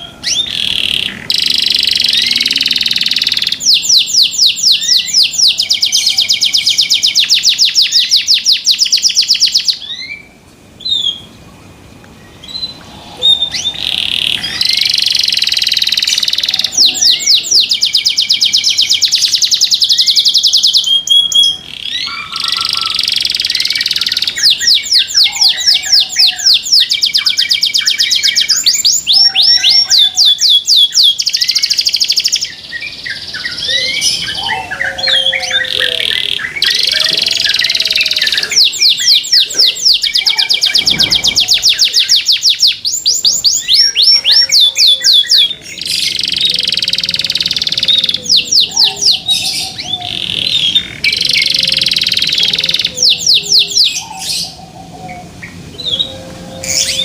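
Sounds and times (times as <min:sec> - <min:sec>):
canary singing in rolling trills: 0:00.0 - 0:11.5, 0:12.2 - 0:57.0.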